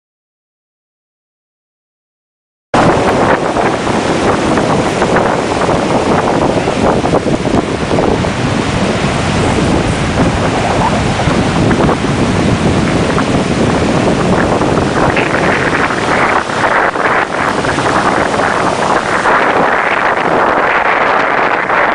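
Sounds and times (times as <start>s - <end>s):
heavy surf: 2.8s - 21.9s
wind buffeting microphone: 2.8s - 21.9s.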